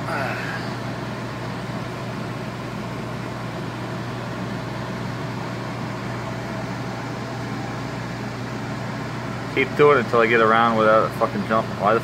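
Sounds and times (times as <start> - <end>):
air conditioner fan blowing: 0.0 - 12.0
constant low hum: 0.0 - 12.0.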